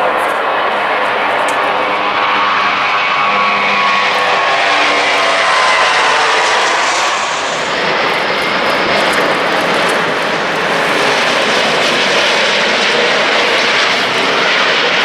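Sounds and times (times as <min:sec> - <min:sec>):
jet airliner passing: 0:00.0 - 0:15.0.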